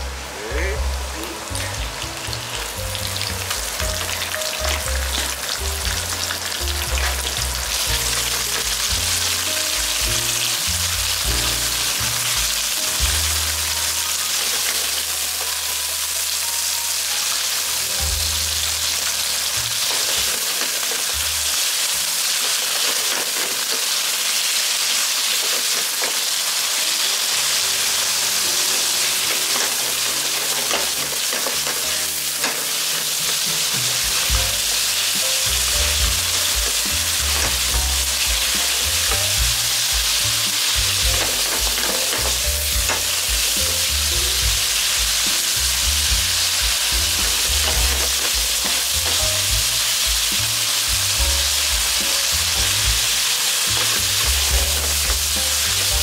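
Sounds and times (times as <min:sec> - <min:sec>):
low background music: 0:00.0 - 0:22.9, 0:26.4 - 0:56.0
chopsticks stirring in pan: 0:00.0 - 0:56.0
meat sizzling in hot oil: 0:00.0 - 0:56.0.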